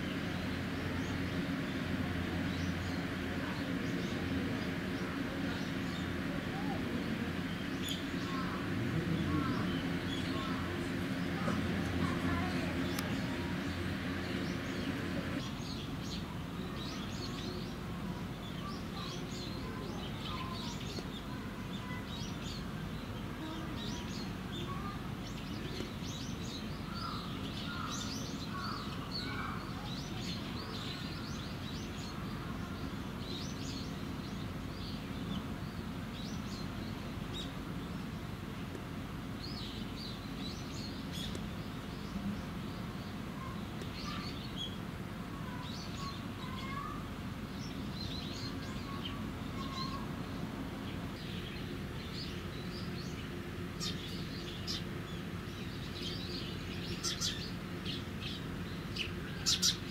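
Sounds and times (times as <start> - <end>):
small birds chirping: 0.0 - 59.9
steady low background hum: 0.0 - 59.9.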